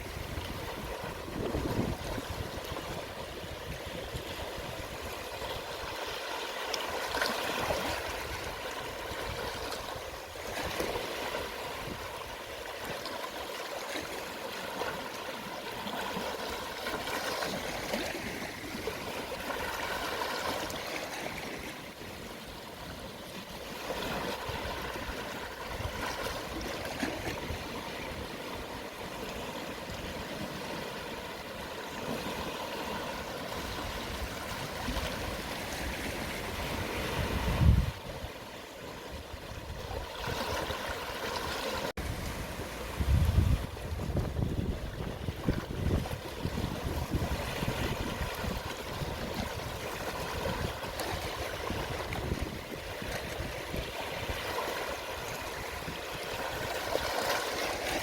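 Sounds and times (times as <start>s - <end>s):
small waves washing onto shore: 0.0s - 58.0s.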